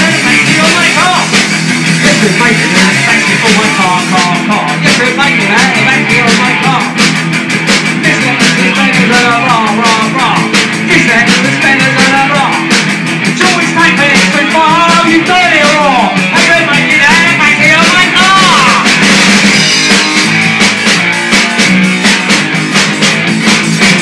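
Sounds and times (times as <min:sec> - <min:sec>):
driving drum beat: 0:00.0 - 0:24.0
rock band playing: 0:00.0 - 0:24.0.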